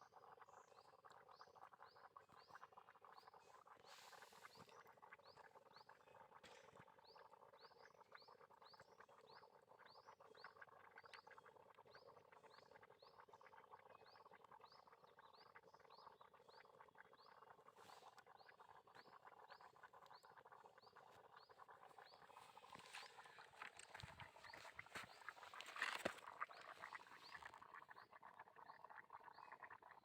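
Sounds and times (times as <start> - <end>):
gurgling bubbling crackle: 0.0 - 30.0.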